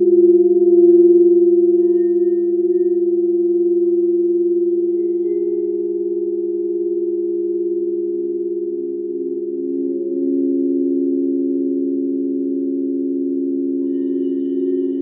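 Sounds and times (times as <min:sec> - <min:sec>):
crystal singing bowls ringing: 0:00.0 - 0:15.0
lower singing bowl tone: 0:00.0 - 0:15.0.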